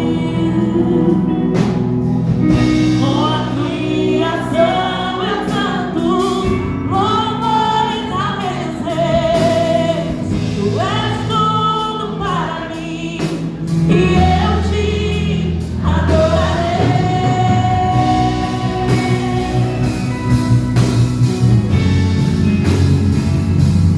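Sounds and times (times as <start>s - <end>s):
voices singing with vibrato: 0.0s - 20.8s
band with steady bass: 0.0s - 23.9s.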